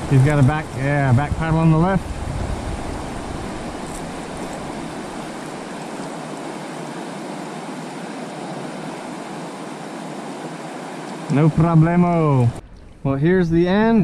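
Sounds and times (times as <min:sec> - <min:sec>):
whitewater rushing and splashing: 0:00.0 - 0:12.6.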